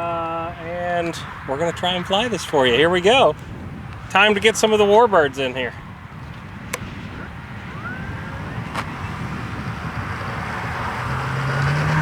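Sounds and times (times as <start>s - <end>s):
wind rushing: 0.0s - 12.0s.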